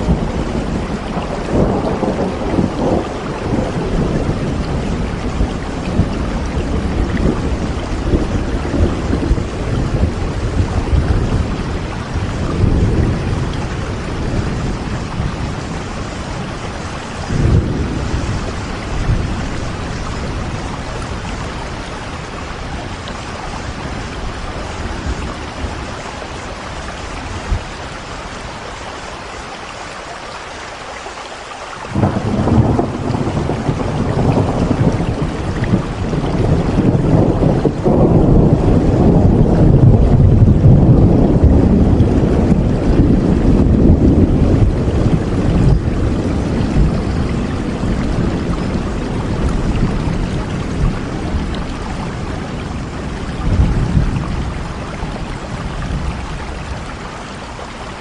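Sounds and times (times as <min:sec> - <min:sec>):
low rolling thunder: 0:00.0 - 0:28.8, 0:31.9 - 0:58.0
steady rain: 0:00.0 - 0:58.0.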